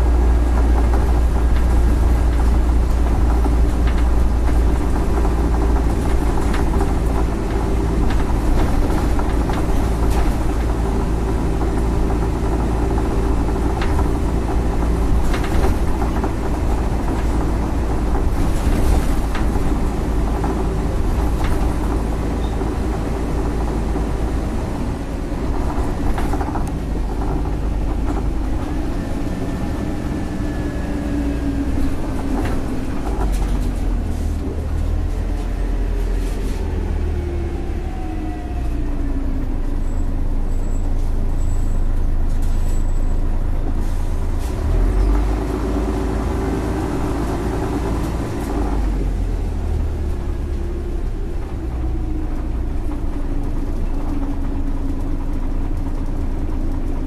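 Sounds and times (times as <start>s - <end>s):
bus body rattles: 0.0s - 57.0s
diesel bus engine rumble: 0.0s - 57.0s
engine and driveline whine: 0.0s - 57.0s.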